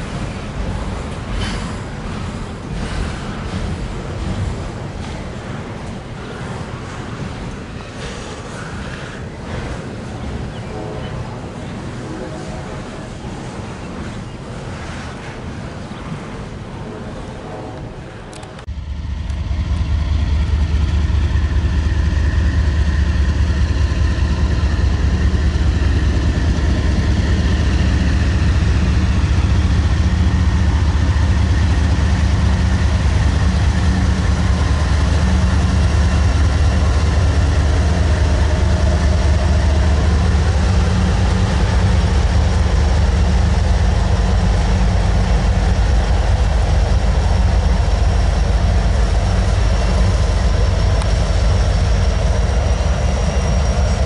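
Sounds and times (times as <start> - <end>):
freight train locomotives passing: 0.0 - 54.0.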